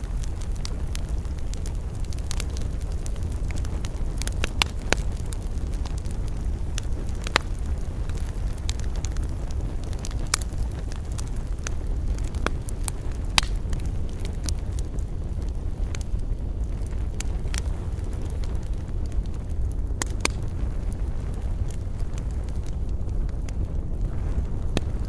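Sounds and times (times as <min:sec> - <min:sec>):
campfire crackling and popping: 0:00.0 - 0:25.0
low rumble: 0:00.0 - 0:25.0.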